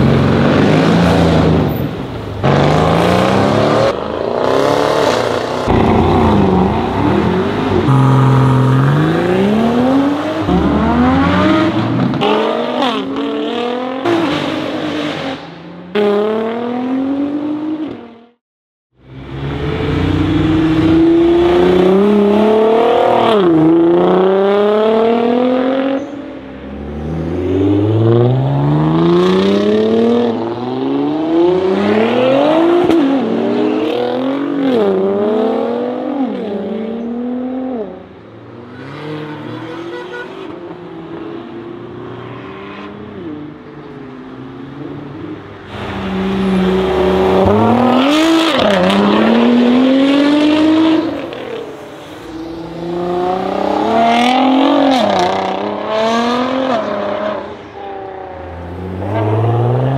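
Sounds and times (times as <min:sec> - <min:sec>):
cars accelerating past: 0:00.0 - 0:18.2, 0:19.1 - 0:37.9, 0:38.6 - 0:59.9.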